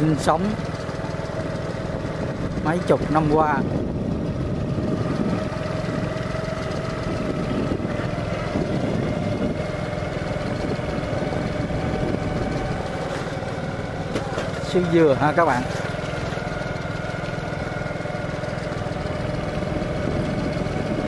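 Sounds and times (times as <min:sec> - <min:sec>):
motorbike engine running: 0:00.0 - 0:21.0.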